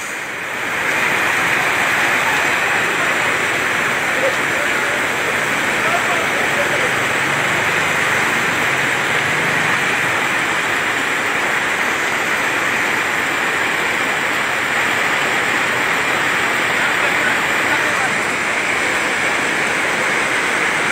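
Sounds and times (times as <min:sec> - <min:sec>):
floodwater rushing: 0:00.0 - 0:20.9
heavy rain downpour: 0:00.0 - 0:20.9.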